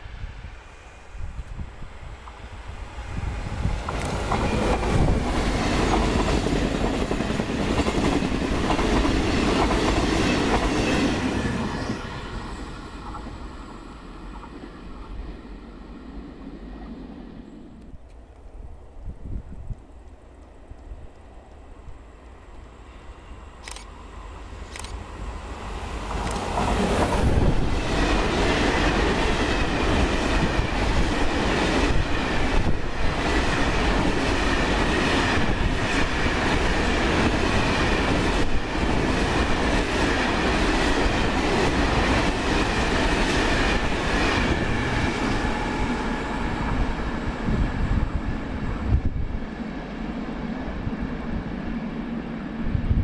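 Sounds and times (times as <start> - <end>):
freight train rumbling past: 0.0 - 18.0, 18.6 - 53.0.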